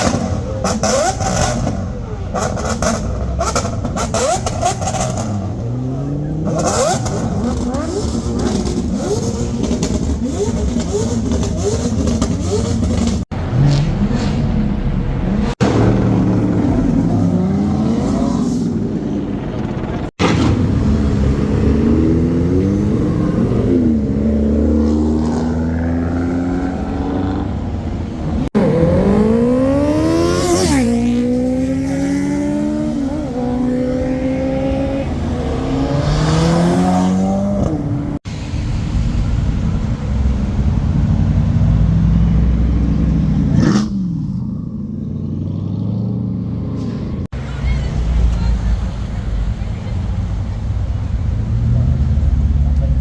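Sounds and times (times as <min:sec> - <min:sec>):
car engines revving hard: 0:00.0 - 0:53.0.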